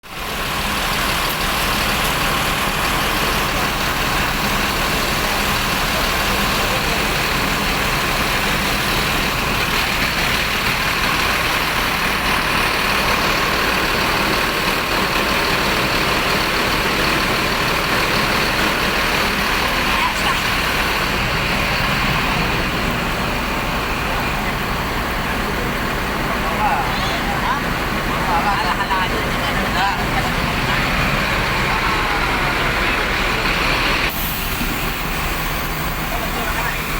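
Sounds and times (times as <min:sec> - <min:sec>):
bus engine running: 0:00.0 - 0:36.9.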